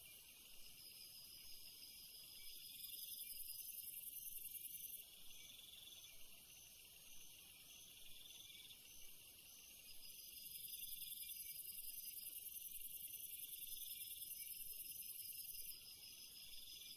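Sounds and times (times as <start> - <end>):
insect chorus trilling: 0.0 - 16.9
short insect chirp: 0.0 - 16.9.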